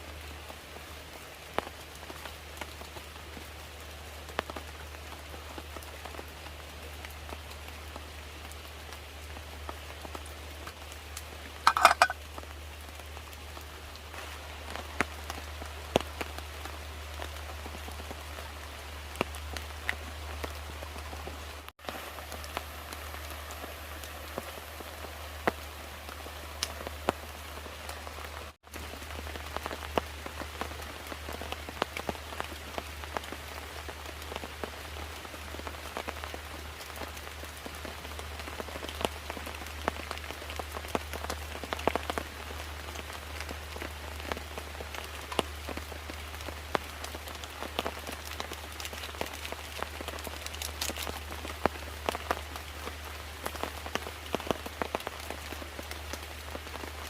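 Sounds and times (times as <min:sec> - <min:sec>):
raindrops ticking on a surface: 0:00.0 - 0:57.0
steady rain falling: 0:00.0 - 0:57.0.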